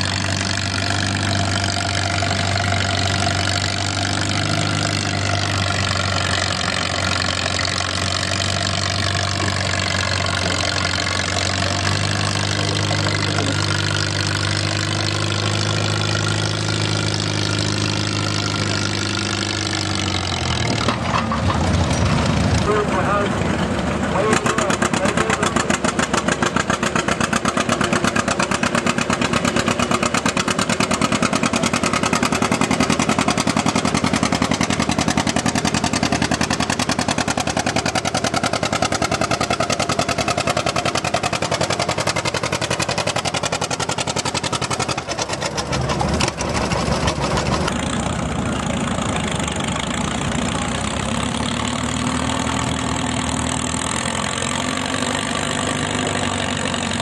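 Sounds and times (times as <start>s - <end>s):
tractor engine popping: 0.0s - 57.0s
tractor engine running smoothly: 0.0s - 57.0s.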